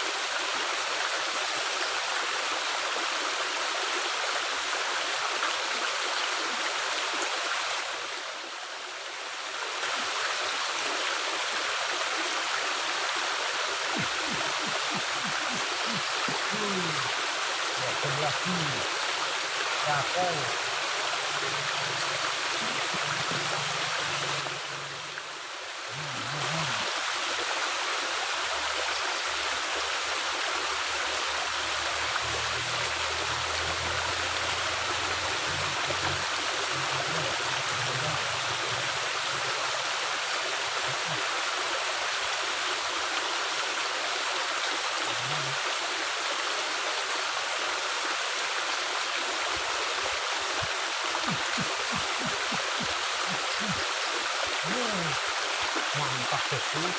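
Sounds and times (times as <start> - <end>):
water rushing through culvert: 0.0 - 56.9.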